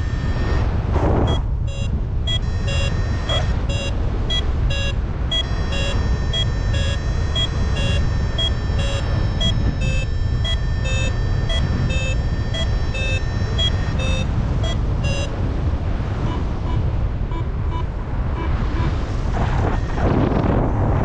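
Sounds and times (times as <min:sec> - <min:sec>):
variometer beeping: 0:00.0 - 0:20.3
wind on microphone: 0:00.0 - 0:21.0.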